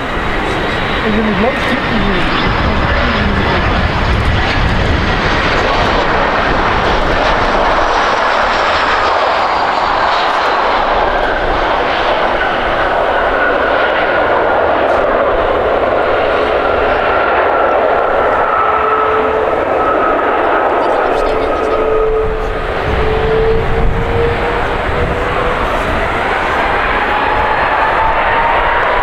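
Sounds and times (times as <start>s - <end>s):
jet airliner engines: 0.0s - 29.0s.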